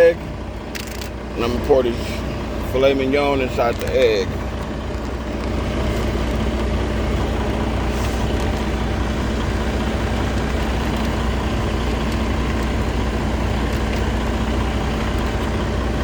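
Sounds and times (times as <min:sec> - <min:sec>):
truck diesel engine idling: 0:00.0 - 0:16.0.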